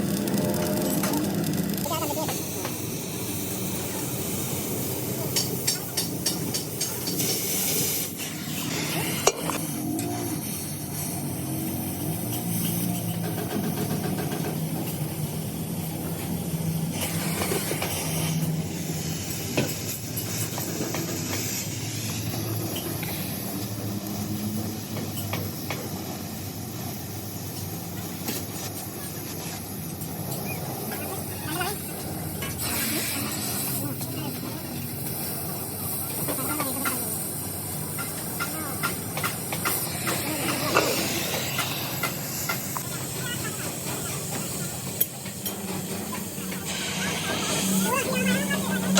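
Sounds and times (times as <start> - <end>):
steady hiss: 2.0 - 13.8, 14.7 - 48.9.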